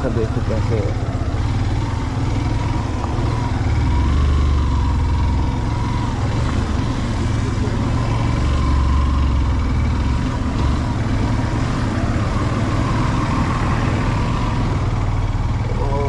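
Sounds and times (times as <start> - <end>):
motorcycle engine running at low speed: 0.0 - 16.0.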